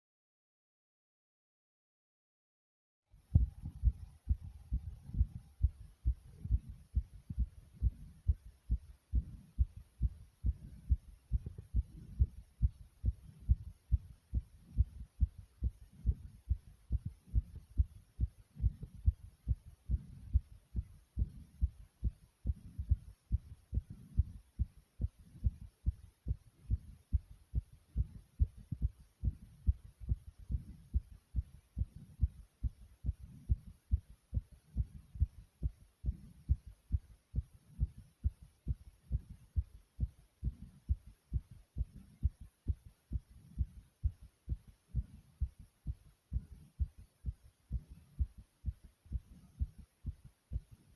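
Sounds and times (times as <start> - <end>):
heart beating fast: 3.2 - 50.9.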